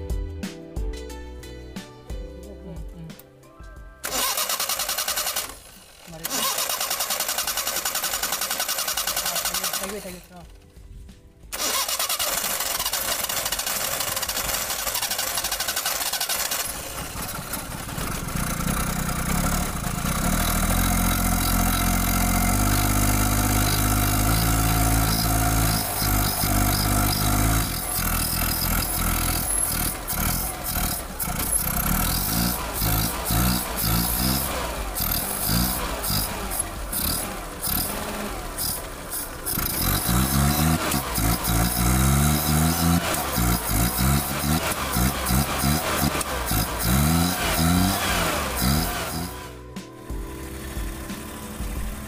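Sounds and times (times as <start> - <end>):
petrol engine revving: 4.0 - 10.8, 11.5 - 52.0.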